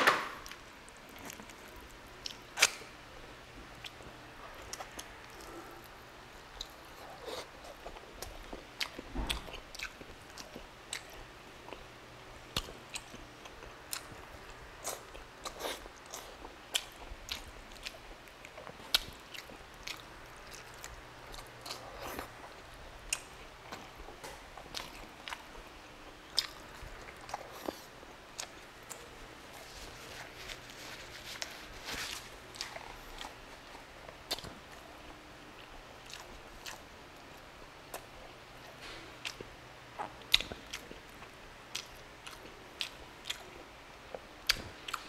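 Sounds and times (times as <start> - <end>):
person chewing with wet smacks: 0.4 - 45.0.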